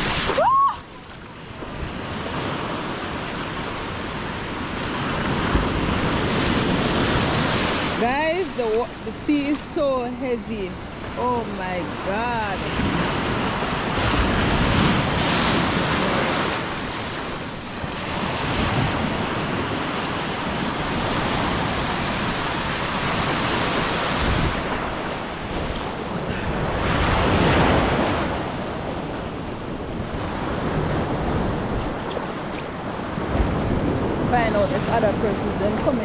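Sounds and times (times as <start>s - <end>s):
heavy surf breaking: 0.0s - 36.0s
wind buffeting microphone: 0.0s - 36.0s.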